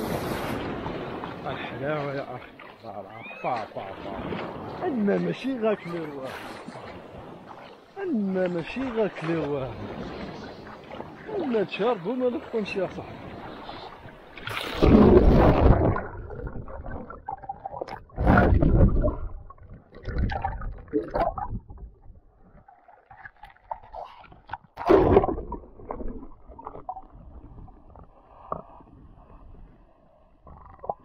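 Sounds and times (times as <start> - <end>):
water splashing over camera: 0.0 - 29.7.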